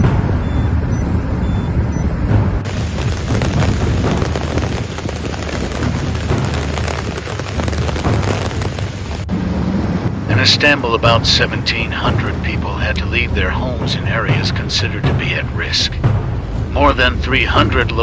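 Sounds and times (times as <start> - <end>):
rushing storm water: 2.3 - 18.0
heavy rain: 2.5 - 18.0.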